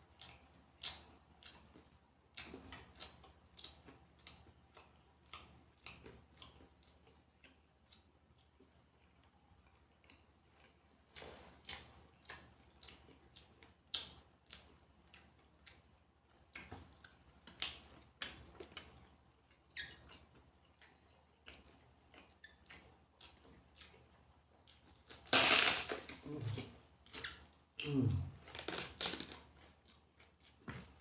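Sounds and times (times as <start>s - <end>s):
person chewing and crunching food: 0.0s - 31.0s.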